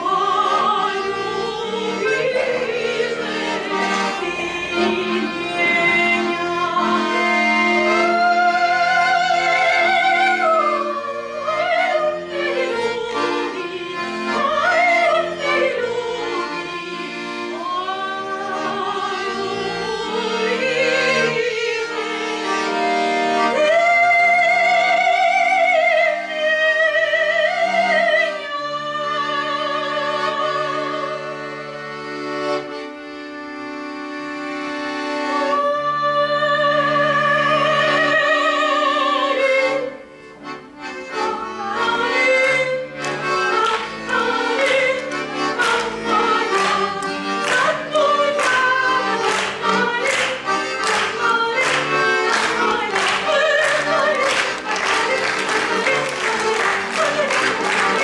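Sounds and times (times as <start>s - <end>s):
woman singing with vibrato: 0.0s - 22.2s, 23.5s - 31.4s, 35.4s - 40.1s, 41.2s - 58.0s
button accordion: 0.0s - 58.0s.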